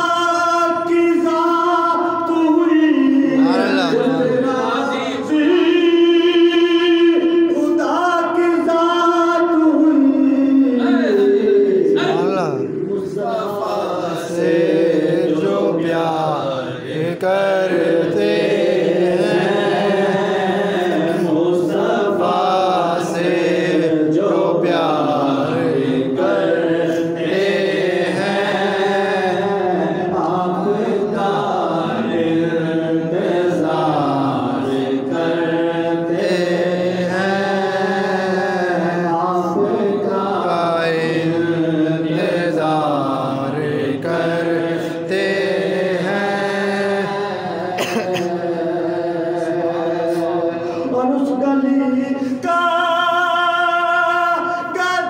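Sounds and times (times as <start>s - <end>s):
man singing unaccompanied: 0.0s - 55.0s.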